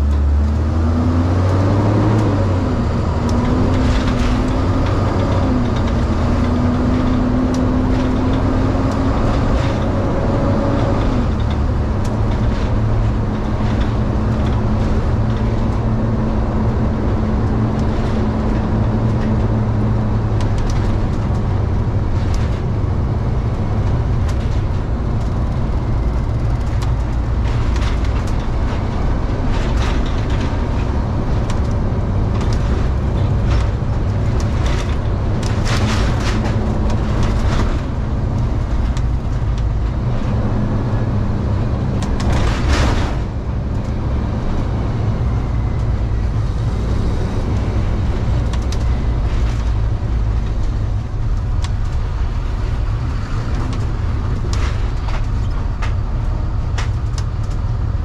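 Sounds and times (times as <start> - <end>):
road noise: 0.0 - 58.0
van engine hum: 0.0 - 58.0
sharp knocks and rattles: 1.6 - 58.0.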